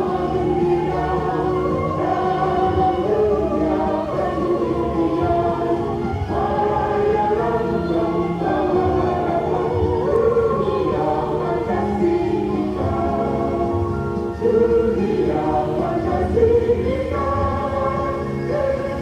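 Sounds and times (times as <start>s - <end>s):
choir singing held chords: 0.0s - 19.0s.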